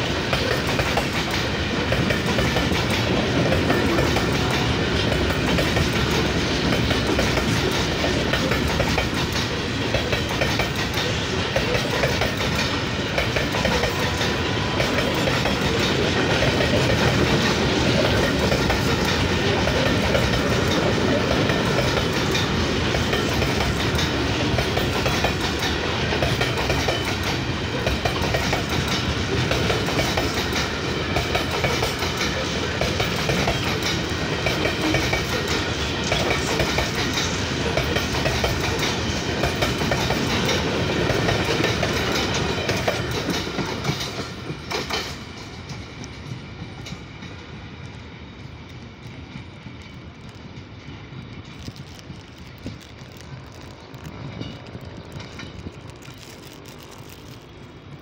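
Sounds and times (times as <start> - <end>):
train wheels clacking over joints: 0.0 - 47.6.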